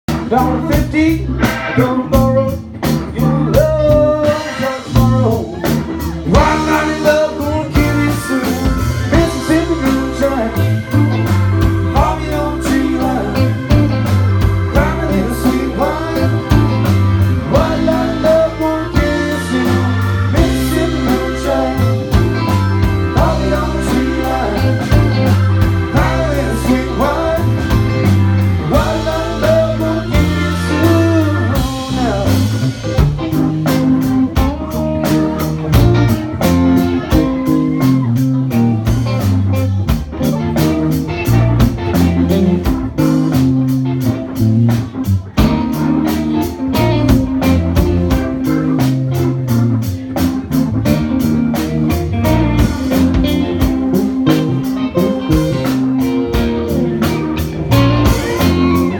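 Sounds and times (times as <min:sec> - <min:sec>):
drums steady beat: 0:00.1 - 0:58.9
live rock band: 0:00.1 - 0:58.9.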